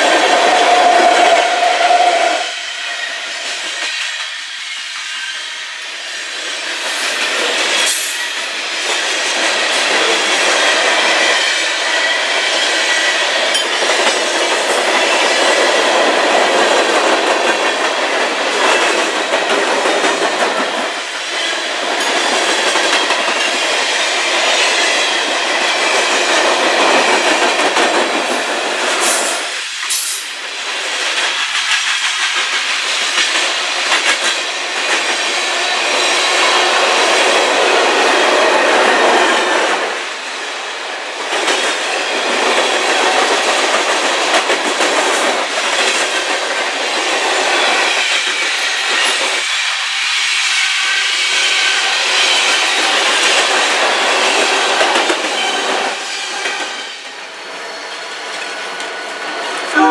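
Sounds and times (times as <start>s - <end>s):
freight train wheels rattling on rail: 0.0s - 59.9s.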